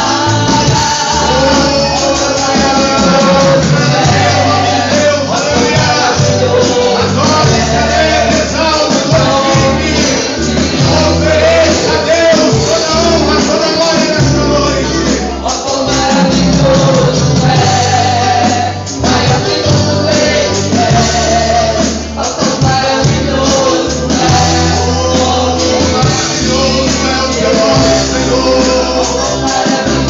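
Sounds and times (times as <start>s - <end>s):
band playing worship music: 0.0s - 30.0s
sung vocals: 0.0s - 30.0s.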